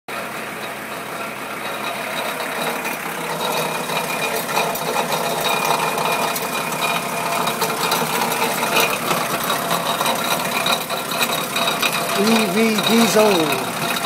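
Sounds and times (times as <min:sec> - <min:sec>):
diesel engine running: 0:00.1 - 0:14.0.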